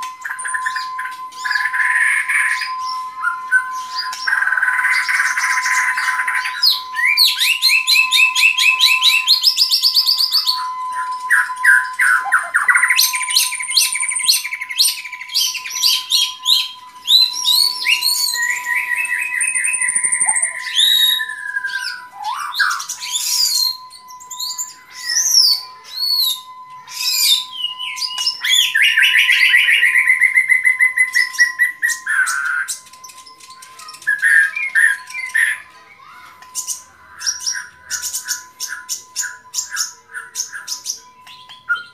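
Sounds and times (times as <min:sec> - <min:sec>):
bird singing trills and whistles: 0:00.0 - 0:41.9.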